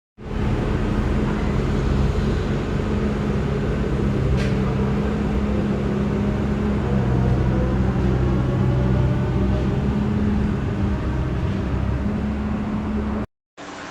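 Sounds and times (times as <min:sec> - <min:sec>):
low motor hum: 0:00.2 - 0:13.9.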